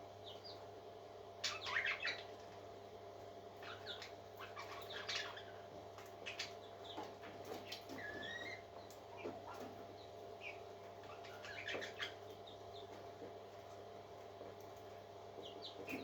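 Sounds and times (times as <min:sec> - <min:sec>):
parrot chicks peeping: 0:00.2 - 0:00.7, 0:01.4 - 0:02.6, 0:03.5 - 0:16.0.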